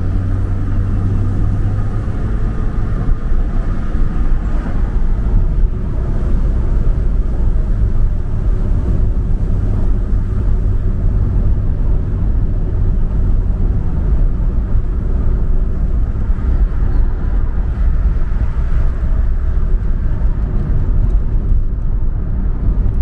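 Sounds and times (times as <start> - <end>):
road and engine rumble in car: 0.0 - 23.0.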